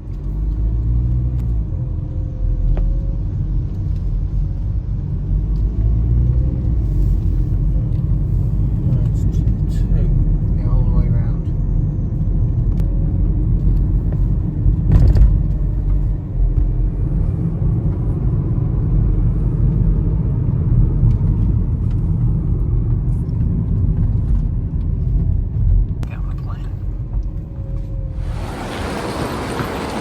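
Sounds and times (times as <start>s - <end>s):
low vehicle rumble: 0.0s - 30.0s.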